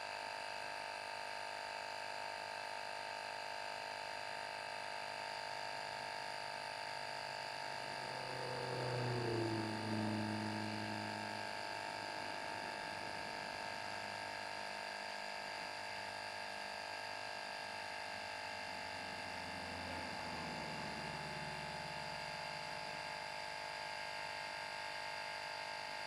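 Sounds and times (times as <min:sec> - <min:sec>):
tire inflator compressor buzzing: 0:04.8 - 0:26.0.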